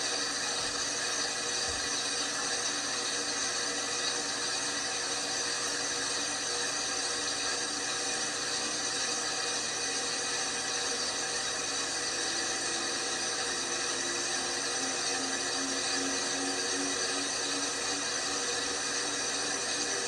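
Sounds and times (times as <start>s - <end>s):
washing machine whirring: 0.0s - 20.0s.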